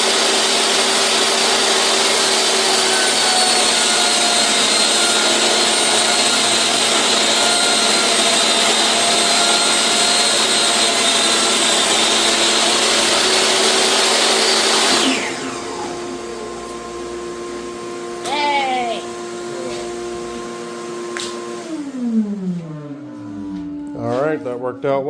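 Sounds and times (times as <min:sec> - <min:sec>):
table saw cutting plexiglass: 0:00.0 - 0:22.7.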